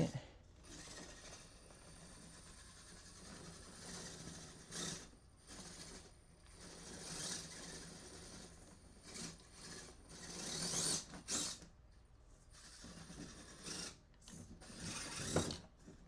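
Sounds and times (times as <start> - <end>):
small electric motor whirring: 0.0 - 11.8, 12.5 - 16.0.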